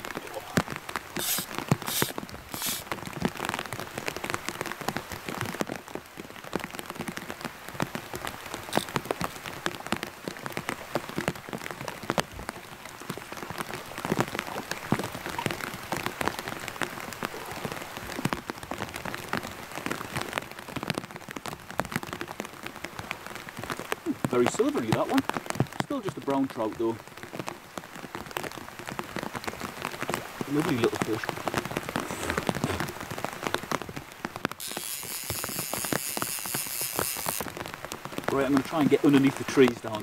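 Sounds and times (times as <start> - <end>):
rain on a plastic bag: 0.0 - 40.0.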